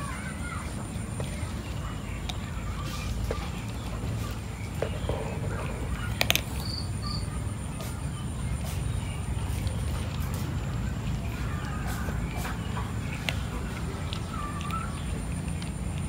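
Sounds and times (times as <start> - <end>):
cat crunching dry kibble: 0.6 - 16.0.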